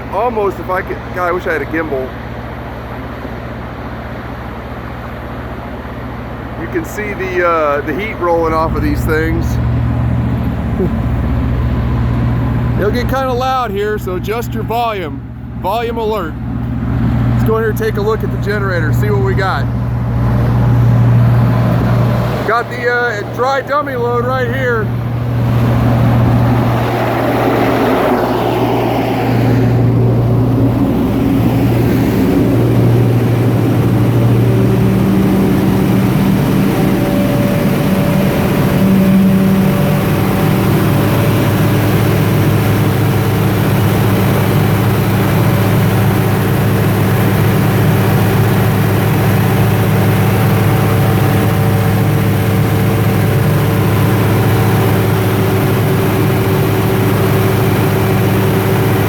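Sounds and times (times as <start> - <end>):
diesel generator engine drone: 0.0 - 59.0.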